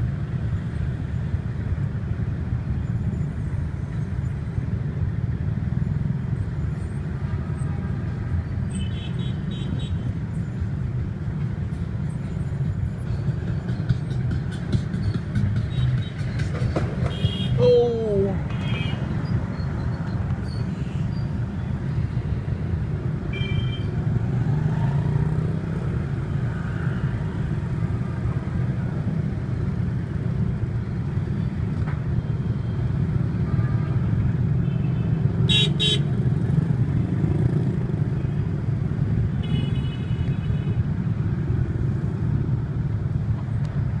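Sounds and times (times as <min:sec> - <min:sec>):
traffic engines rumbling: 0:00.0 - 0:44.0.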